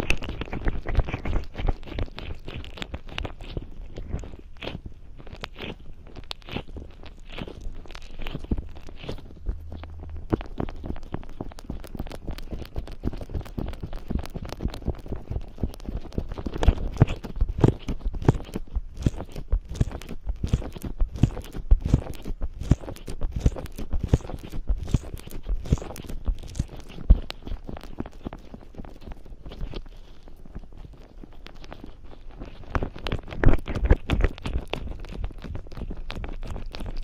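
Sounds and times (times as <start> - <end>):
crackling squishes: 0.0 - 37.0
fingers rubbing cream on skin: 0.0 - 37.0.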